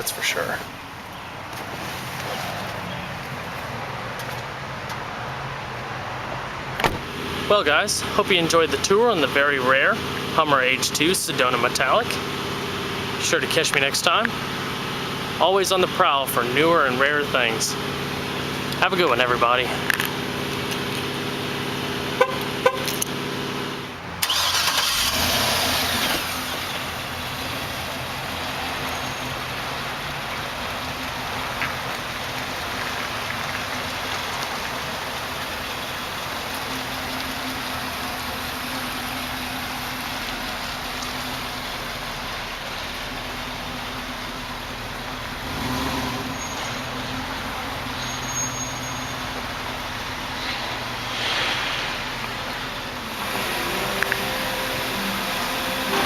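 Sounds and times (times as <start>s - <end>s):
road and wind noise: 0.0s - 56.0s
vehicle low hum: 0.0s - 56.0s.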